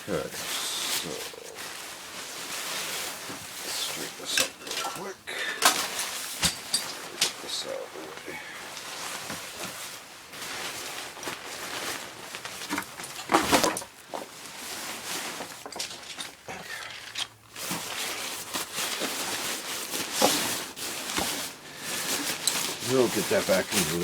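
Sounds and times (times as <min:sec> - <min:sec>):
fabric rustling and crinkling: 0:00.0 - 0:24.0.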